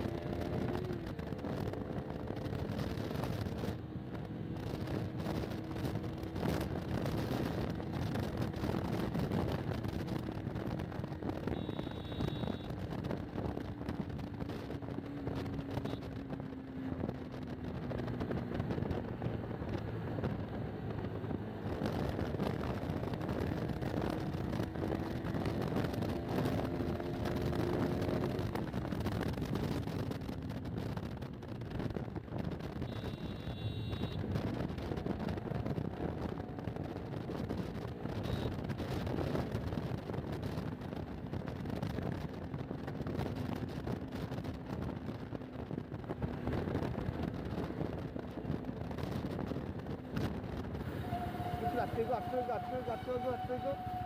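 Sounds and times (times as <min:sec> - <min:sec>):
motorcycle engine running: 0:00.0 - 0:53.1
wind and road noise: 0:00.0 - 0:54.0.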